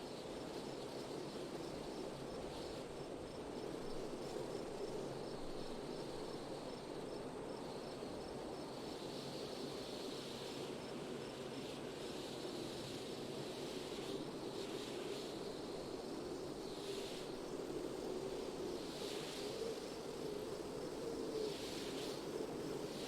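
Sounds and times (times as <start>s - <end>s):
steady wind: 0.0s - 23.0s.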